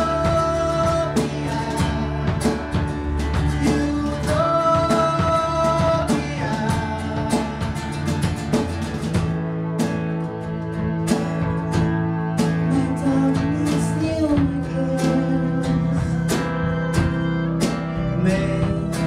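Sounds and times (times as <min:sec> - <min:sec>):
drum hits: 0:00.0 - 0:19.0
live band playing: 0:00.0 - 0:19.0.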